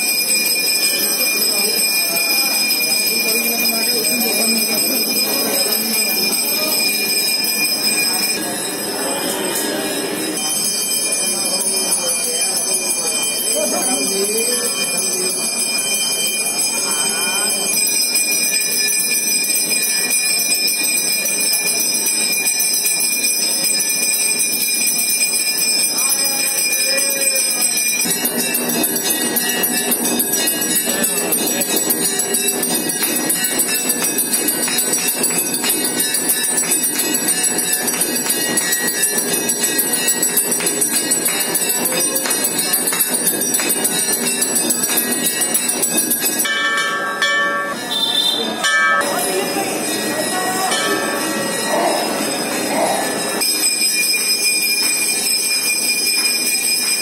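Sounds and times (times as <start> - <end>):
temple bells clanging: 0.0 - 57.0.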